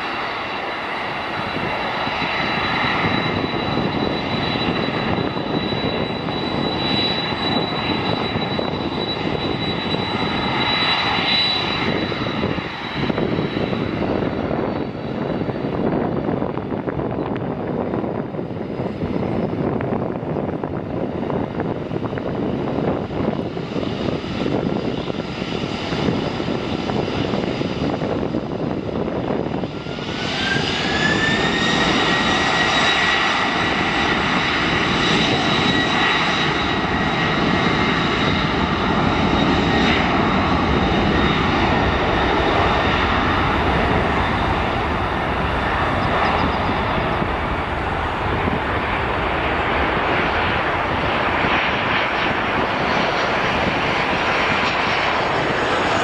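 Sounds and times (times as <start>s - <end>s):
high engine whine: 0.0s - 56.0s
jet engines rushing: 0.0s - 56.0s.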